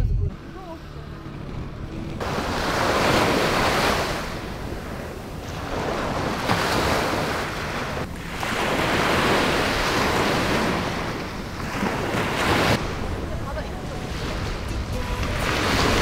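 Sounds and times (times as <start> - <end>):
small waves breaking on beach: 2.2 - 16.0.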